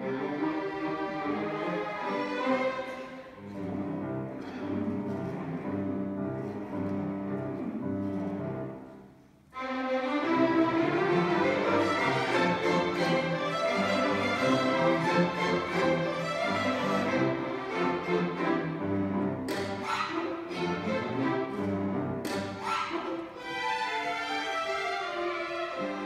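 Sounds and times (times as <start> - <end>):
string orchestra playing classical piece: 0.0 - 26.0.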